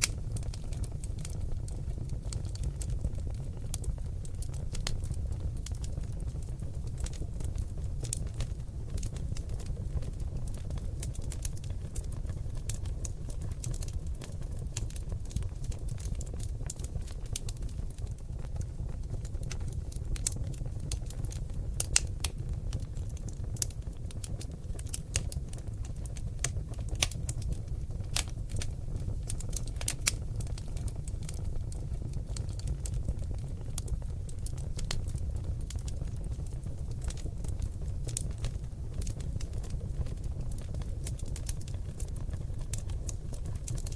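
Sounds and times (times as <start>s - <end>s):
logs crackling in a fireplace: 0.0s - 43.9s.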